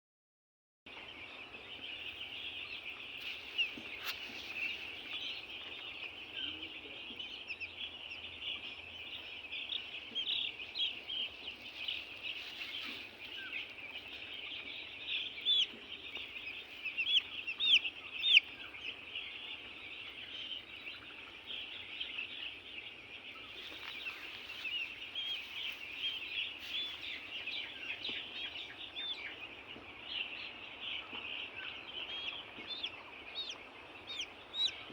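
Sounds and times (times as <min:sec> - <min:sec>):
chickens peeping and chirping: 0:00.9 - 0:34.9.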